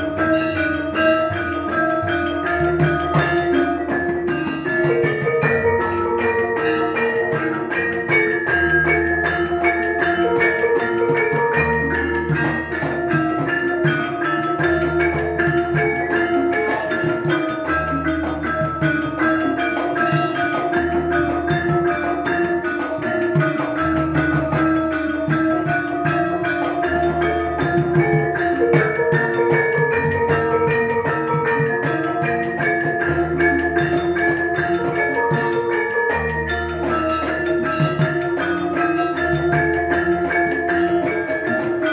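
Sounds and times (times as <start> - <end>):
hand drumming: 0.0 - 41.9
metallophones ringing melody: 0.0 - 41.9.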